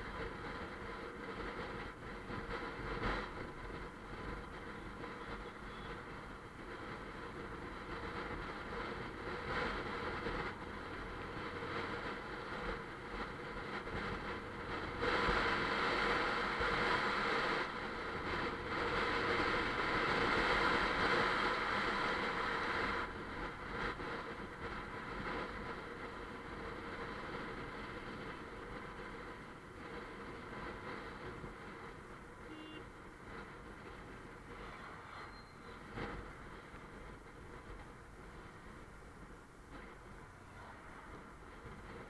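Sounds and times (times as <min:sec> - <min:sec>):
wind and road noise: 0:00.0 - 0:42.0.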